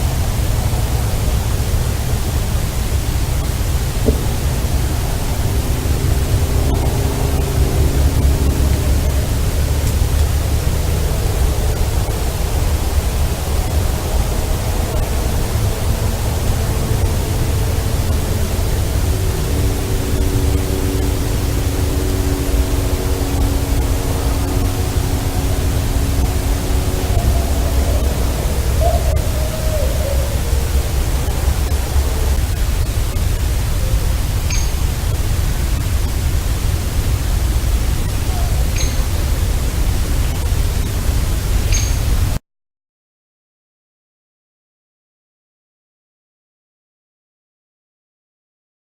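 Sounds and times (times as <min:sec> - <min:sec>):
faint drawn-out steady tones: 0:00.0 - 0:42.4
steady hiss with low rumble: 0:00.0 - 0:42.4.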